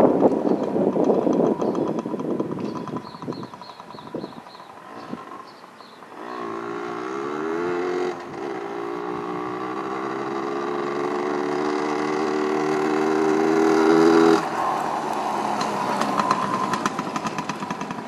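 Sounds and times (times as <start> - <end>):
motorbike engine accelerating: 0.0 - 18.0.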